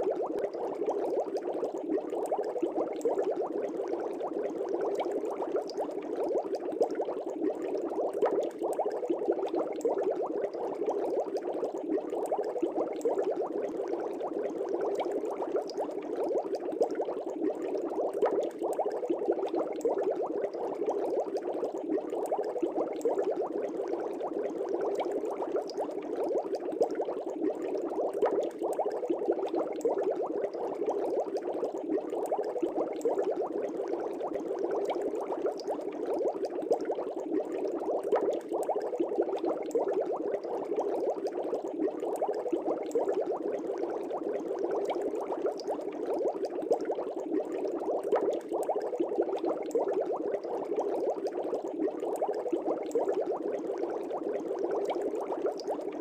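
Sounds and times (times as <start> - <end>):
fish tank bubbling: 0.0 - 56.0.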